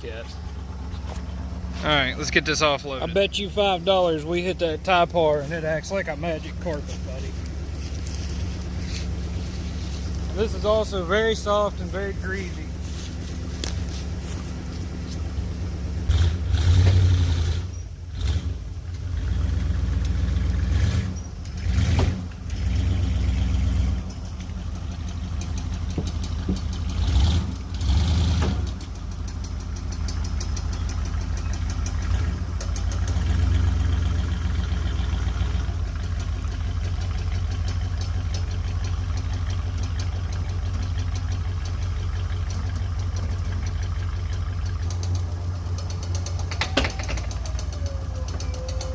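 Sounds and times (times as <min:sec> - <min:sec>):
engine running at low revs: 0:00.0 - 0:48.9.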